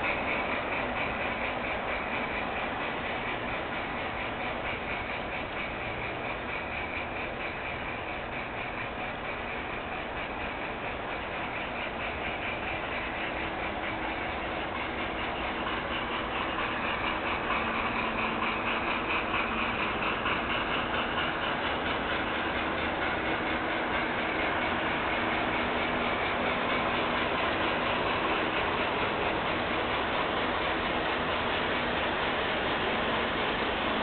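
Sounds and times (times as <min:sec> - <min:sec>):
model train motor and wheels: 0:00.0 - 0:34.0.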